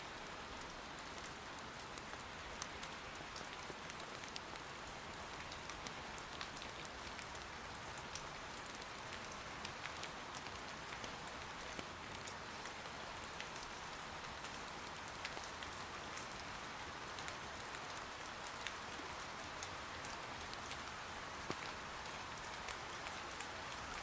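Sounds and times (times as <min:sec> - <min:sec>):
soft rain patter: 0:00.0 - 0:24.0.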